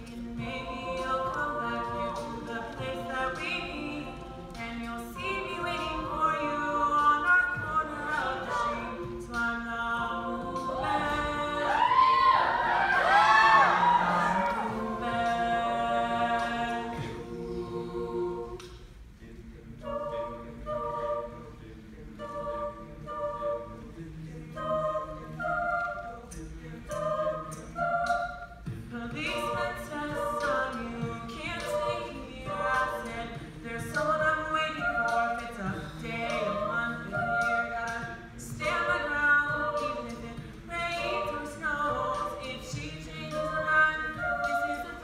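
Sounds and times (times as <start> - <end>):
vocal percussion ticks: 0.0 - 11.7, 13.8 - 21.2, 22.2 - 45.0
a cappella group singing: 0.0 - 45.0.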